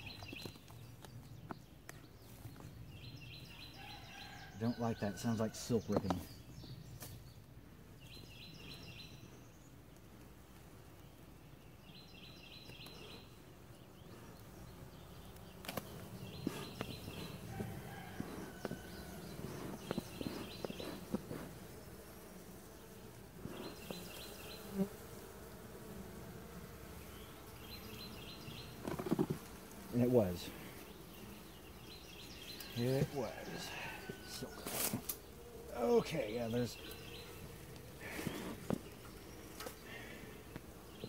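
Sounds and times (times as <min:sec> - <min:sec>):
bees buzzing: 0:07.8 - 0:41.0.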